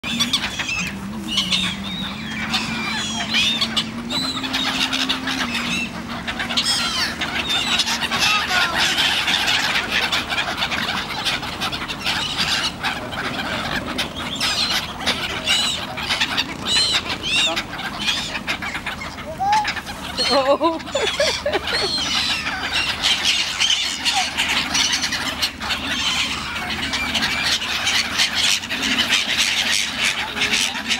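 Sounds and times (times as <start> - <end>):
gulls calling: 0.0 - 30.9
low steady hum: 0.0 - 30.9.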